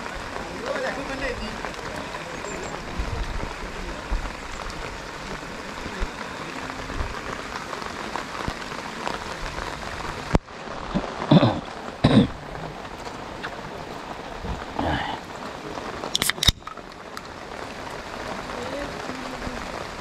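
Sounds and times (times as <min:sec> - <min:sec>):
rain drop ticks: 0:00.0 - 0:20.0
steady rain falling: 0:00.0 - 0:20.0.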